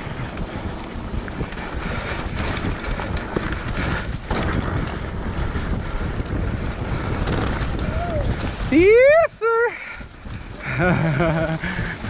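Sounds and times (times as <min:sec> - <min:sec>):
bike chain and frame rattling: 0:00.0 - 0:12.0
bike tyres rolling over dirt: 0:00.0 - 0:12.0
wind rumble on microphone: 0:00.0 - 0:12.0.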